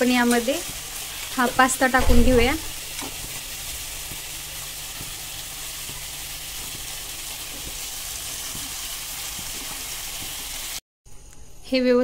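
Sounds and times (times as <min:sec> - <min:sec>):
food sizzling in a frying pan: 0:00.0 - 0:10.8.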